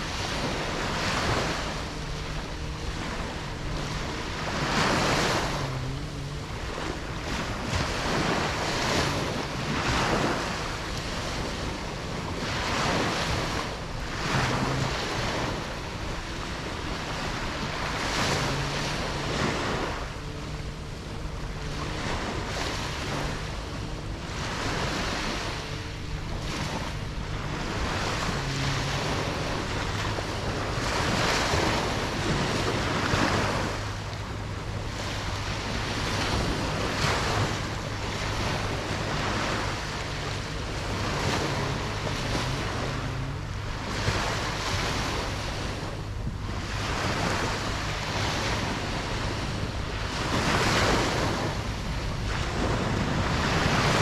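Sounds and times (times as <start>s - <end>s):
ocean waves washing onto beach: 0.0s - 54.0s
wind noise on microphone: 0.0s - 54.0s.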